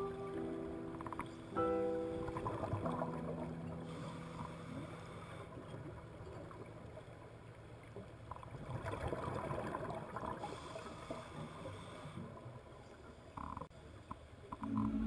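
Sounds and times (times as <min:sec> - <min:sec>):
muffled underwater rumble: 0:00.0 - 0:12.5, 0:13.1 - 0:15.0.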